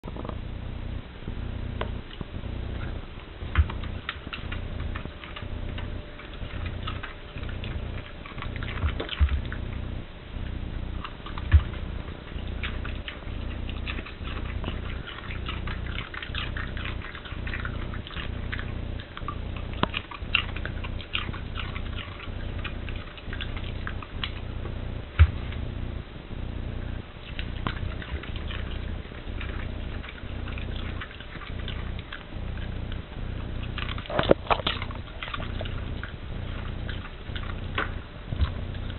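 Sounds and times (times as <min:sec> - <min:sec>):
steady low hum: 0:00.0 - 0:38.9
dog crunching cabbage: 0:02.0 - 0:25.9, 0:26.8 - 0:38.9.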